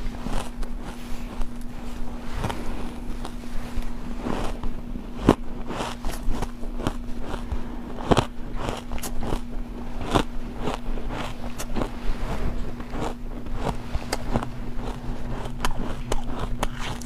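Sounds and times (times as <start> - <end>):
ice crunching while chewed: 0.0 - 17.0
steady low hum: 0.0 - 17.0.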